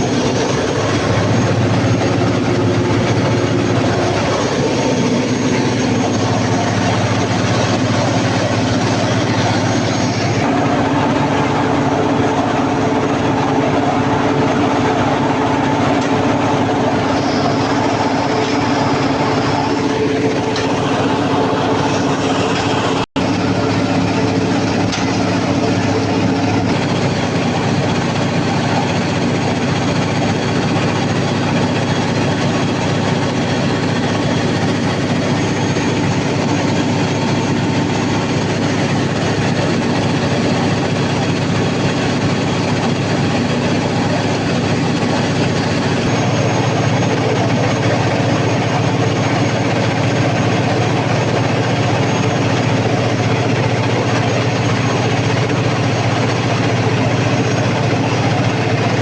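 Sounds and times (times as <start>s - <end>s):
diesel generator engine running: 0.0s - 59.0s.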